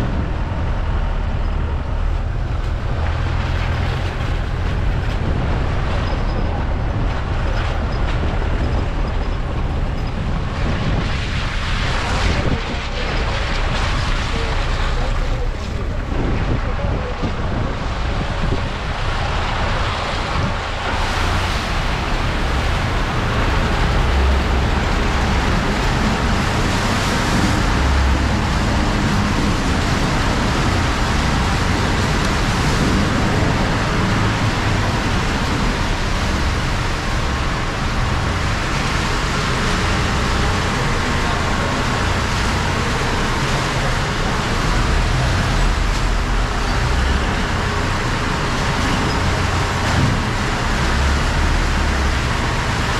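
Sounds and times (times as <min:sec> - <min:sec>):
vehicle engine and tyres rumbling: 0:00.0 - 0:52.9.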